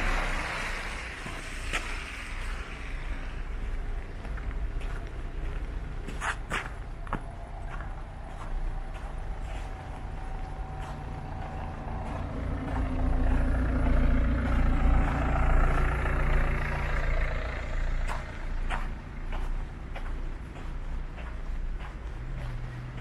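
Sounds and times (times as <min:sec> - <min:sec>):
vehicle engine passing: 0:00.0 - 0:06.0, 0:07.0 - 0:23.0.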